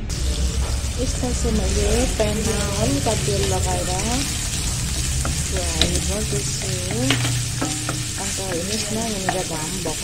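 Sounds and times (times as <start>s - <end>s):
meat sizzling in oil: 0.0s - 10.0s
utensil tapping pan: 1.9s - 10.0s.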